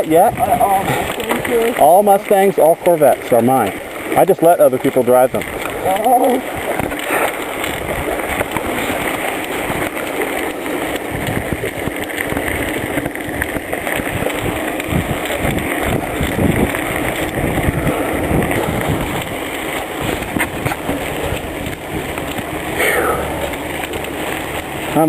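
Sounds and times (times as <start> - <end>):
wind buffeting microphone: 0.0 - 2.5, 3.1 - 25.0
bicycle tyres rolling on trail: 0.0 - 25.0.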